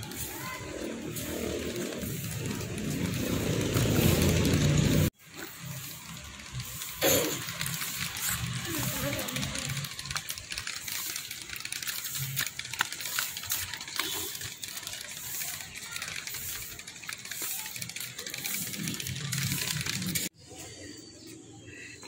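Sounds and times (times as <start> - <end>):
faint voices: 0.0 - 5.1, 6.0 - 22.0.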